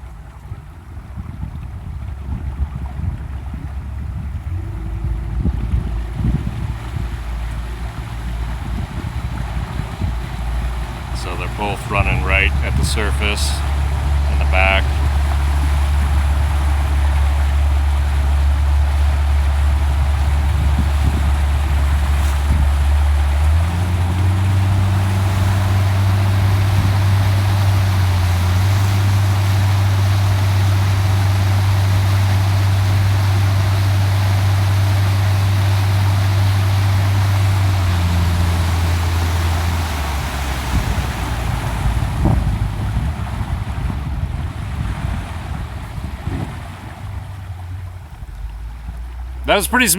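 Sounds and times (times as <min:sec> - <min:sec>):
motorboat engine drone: 0:00.0 - 0:49.9
splashing water: 0:00.0 - 0:49.9
wind: 0:00.0 - 0:49.9.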